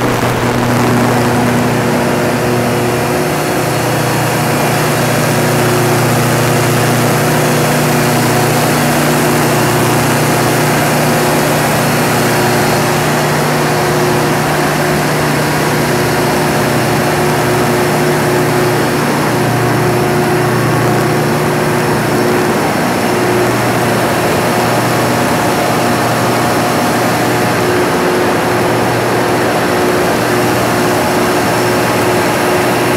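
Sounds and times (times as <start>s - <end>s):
diesel generator engine droning: 0.0s - 32.9s.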